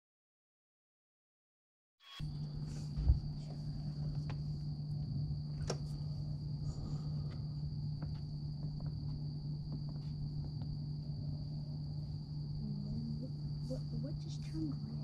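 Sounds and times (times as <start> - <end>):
crickets trilling: 2.2 - 15.0
low steady hum: 2.2 - 15.0.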